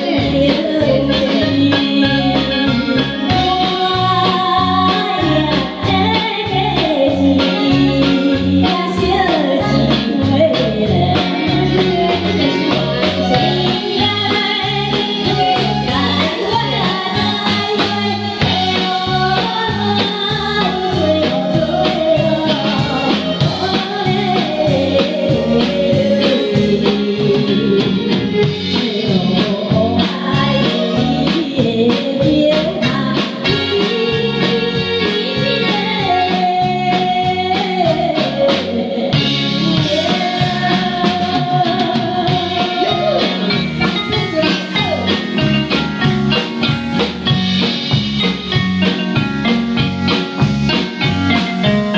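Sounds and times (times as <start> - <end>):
woman singing: 0.0 - 46.4
drum kit beat: 0.0 - 51.9
electric guitar: 0.0 - 51.9
live band playing: 0.0 - 51.9.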